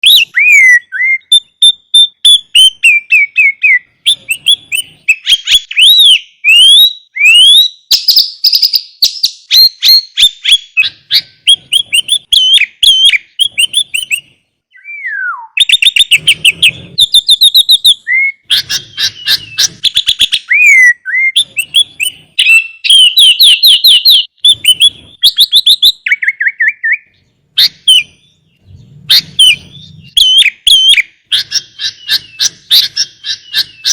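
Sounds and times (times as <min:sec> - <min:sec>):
bird singing chirps and trills: 0:00.0 - 0:33.9.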